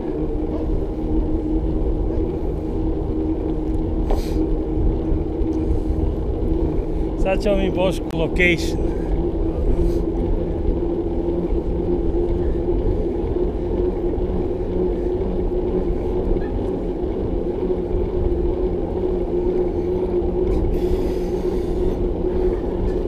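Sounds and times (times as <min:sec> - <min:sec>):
bicycle tyre and road noise: 0:00.0 - 0:23.0
constant low hum: 0:00.0 - 0:23.0.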